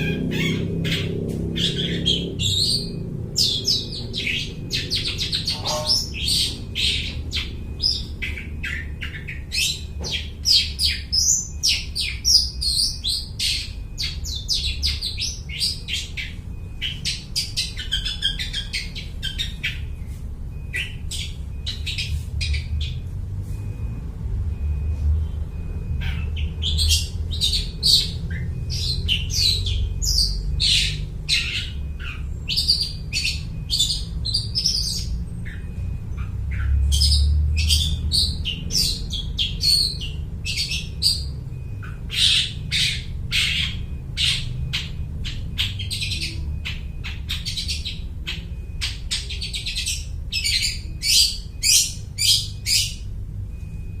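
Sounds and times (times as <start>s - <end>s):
shrike singing chirps and squawks: 0.0s - 23.0s, 25.9s - 53.2s.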